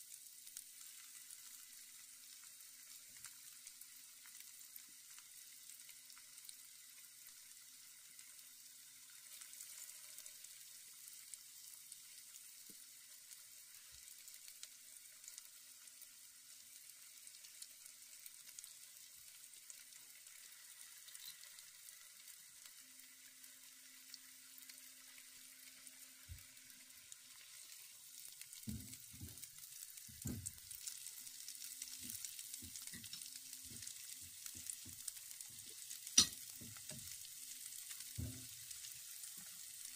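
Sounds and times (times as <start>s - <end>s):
oil sizzling in a pan: 0.0s - 39.9s.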